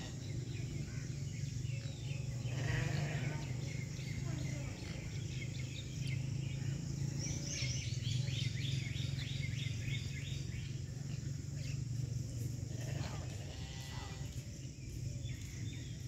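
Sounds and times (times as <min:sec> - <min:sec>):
bird chirping: 0:00.0 - 0:16.0
steady low hum: 0:00.0 - 0:16.0.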